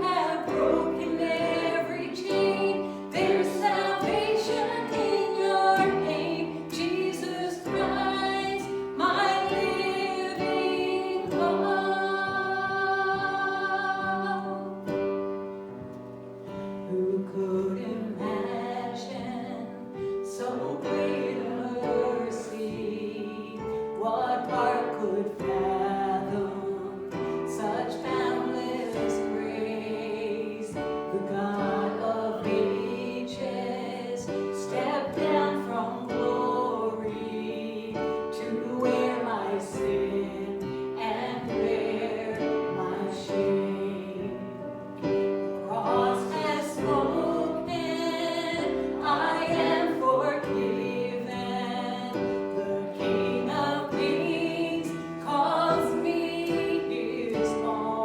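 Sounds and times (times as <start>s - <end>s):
people singing slow melody: 0.0s - 58.0s.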